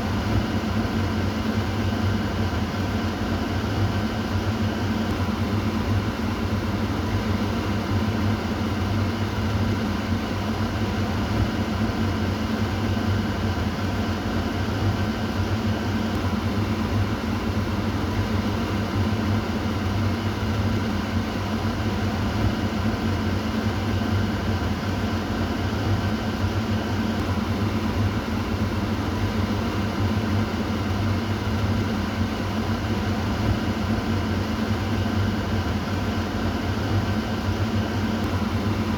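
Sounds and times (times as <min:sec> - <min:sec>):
exhaust fan running: 0:00.0 - 0:38.9.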